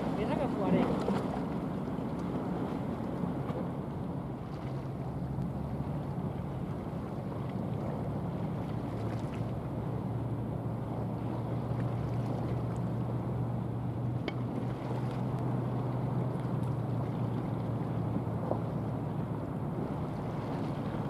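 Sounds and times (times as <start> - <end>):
ship diesel engine drone: 0.0 - 21.0.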